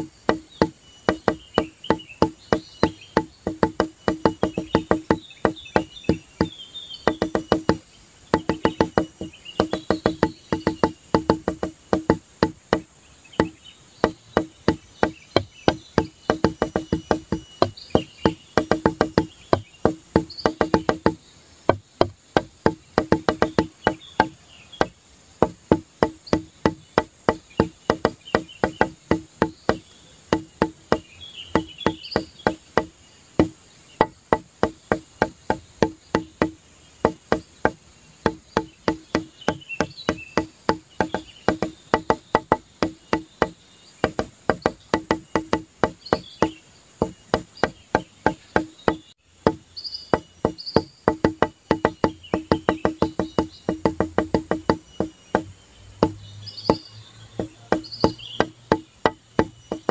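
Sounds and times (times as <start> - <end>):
sharp wooden knocks: 0.0 - 59.9.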